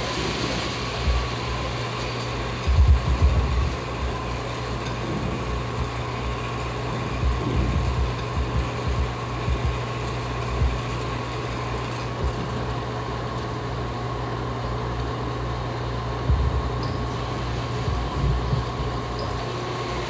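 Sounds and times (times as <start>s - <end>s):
electric motor hum and whir: 0.0s - 20.0s.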